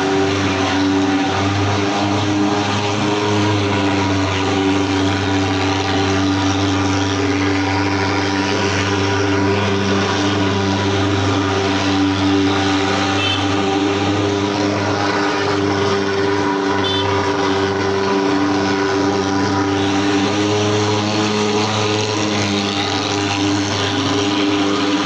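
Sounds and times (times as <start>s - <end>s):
fogging machine droning: 0.0s - 25.0s.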